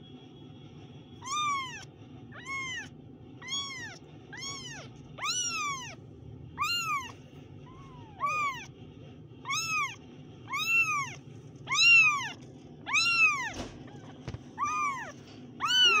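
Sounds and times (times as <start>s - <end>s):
kittens mewing: 1.2s - 6.0s, 6.6s - 8.7s, 9.4s - 16.0s.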